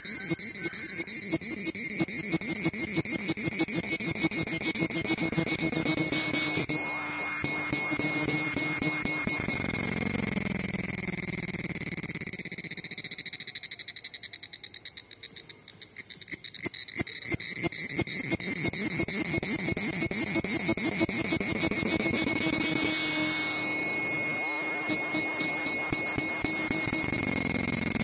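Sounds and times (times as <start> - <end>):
cicada buzzing: 0.0 - 28.0.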